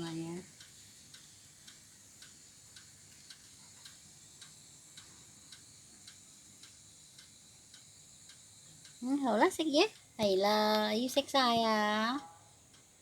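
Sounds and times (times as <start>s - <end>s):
faint even ticking: 0.0s - 13.0s.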